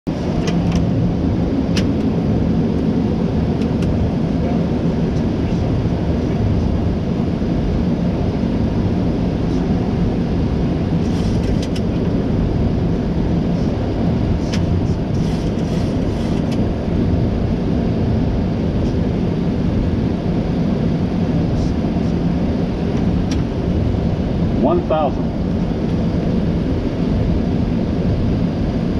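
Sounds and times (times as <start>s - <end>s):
low hum: 0.1s - 28.9s.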